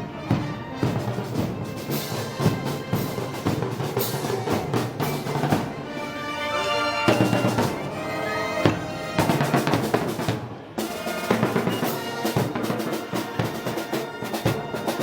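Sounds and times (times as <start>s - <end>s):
snare and bass drum beating: 0.0s - 6.0s, 7.1s - 8.0s, 8.6s - 15.0s
wind instruments holding notes: 0.0s - 15.0s.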